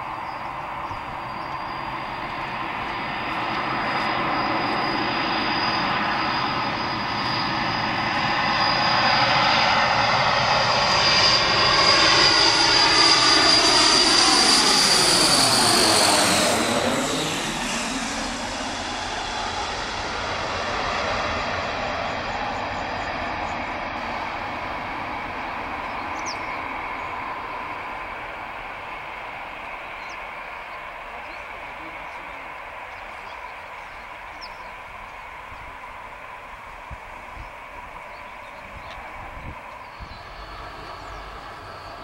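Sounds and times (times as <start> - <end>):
high turbine whine: 0.0 - 42.0
turboprop aircraft propeller roar: 0.0 - 42.0.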